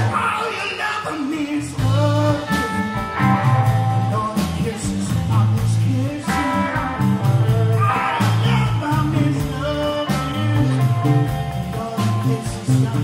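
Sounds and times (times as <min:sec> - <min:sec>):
bass: 0:00.0 - 0:13.0
drums: 0:00.0 - 0:13.0
electric guitars: 0:00.0 - 0:13.0
man singing into microphone: 0:00.0 - 0:13.0.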